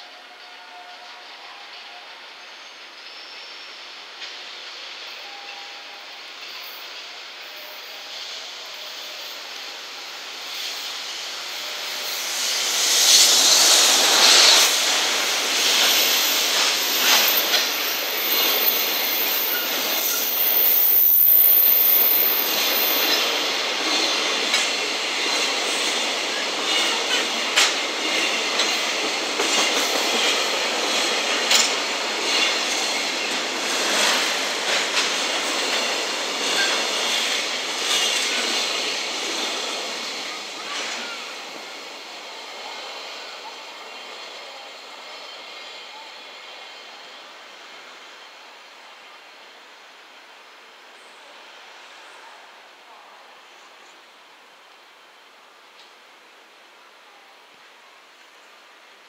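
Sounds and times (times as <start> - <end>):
electric locomotive passing: 0.0 - 56.1.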